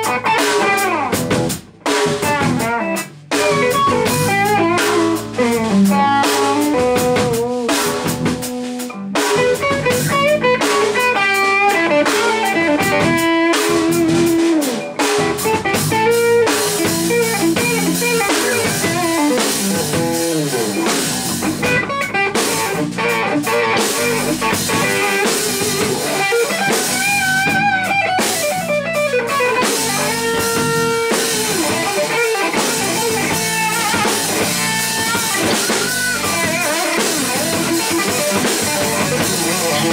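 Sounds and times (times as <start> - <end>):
drum kit: 0.0 - 39.9
electric bass: 0.0 - 39.9
electric guitar lines: 0.0 - 39.9.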